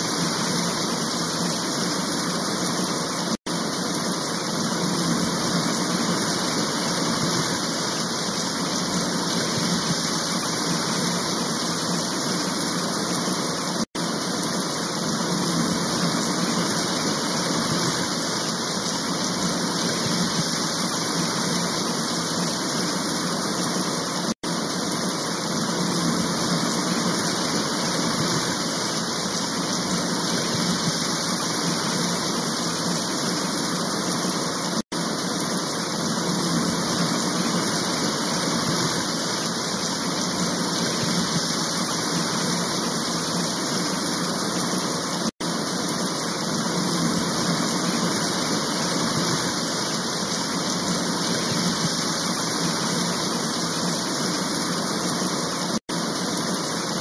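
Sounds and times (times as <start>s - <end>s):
floodwater rushing through streets: 0.0s - 57.0s.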